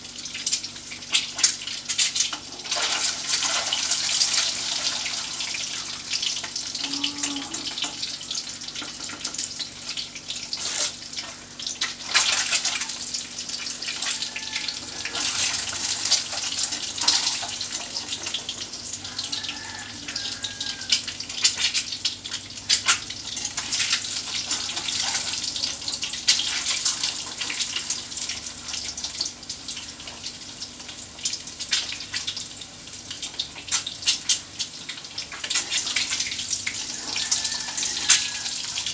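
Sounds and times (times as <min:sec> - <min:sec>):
eggs sizzling in hot oil: 0:00.0 - 0:38.9.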